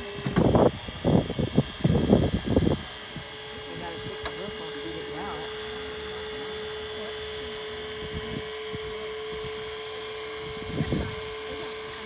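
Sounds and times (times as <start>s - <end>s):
hydraulic power unit whining: 0.0s - 12.0s
rescue tool working on metal: 0.0s - 12.0s.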